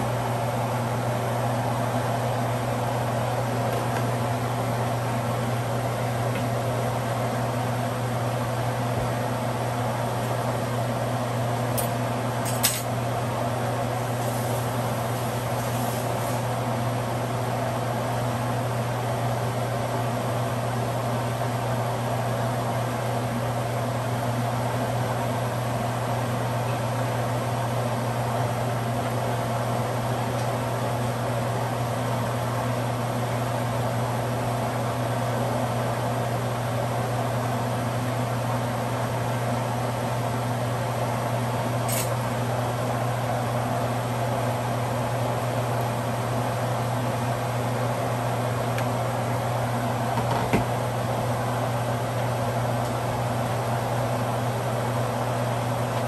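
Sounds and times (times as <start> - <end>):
fan motor humming: 0.0 - 56.0.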